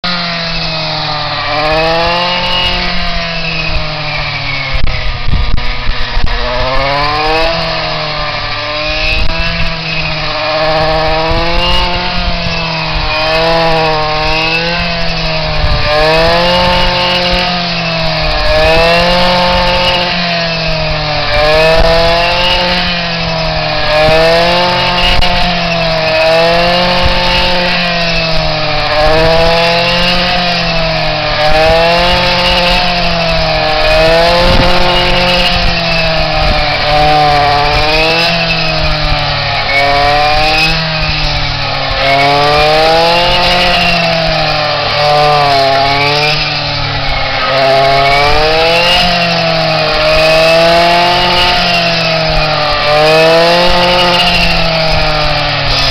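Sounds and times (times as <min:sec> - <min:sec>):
brush cutter engine running: 0:00.0 - 0:55.9.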